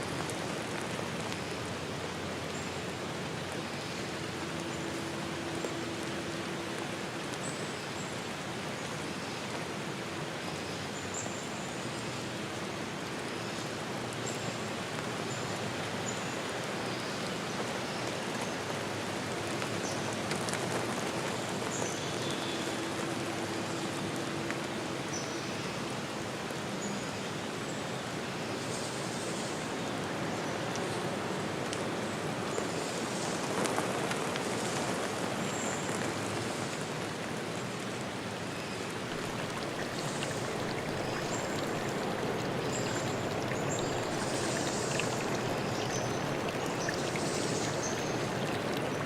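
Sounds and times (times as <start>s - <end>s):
stream flowing: 0.0s - 49.0s.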